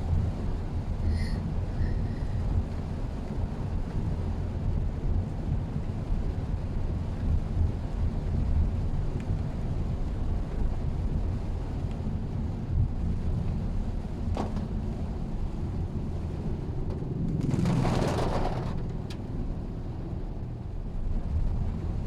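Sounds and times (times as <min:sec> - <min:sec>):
car driving low rumble: 0:00.0 - 0:22.0.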